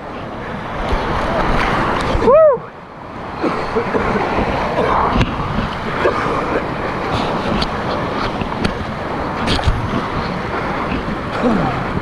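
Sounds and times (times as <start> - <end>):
water splashing against boat: 0.0 - 12.0
whitewater rushing: 0.0 - 12.0.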